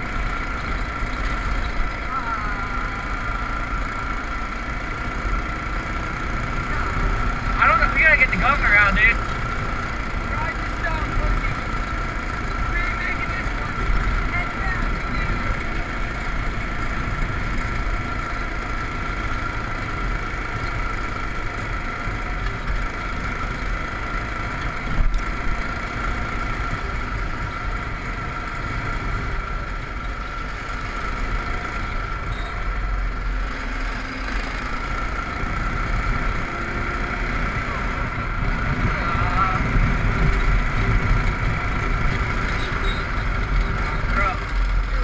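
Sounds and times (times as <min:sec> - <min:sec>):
go-kart engine running: 0:00.0 - 0:45.0.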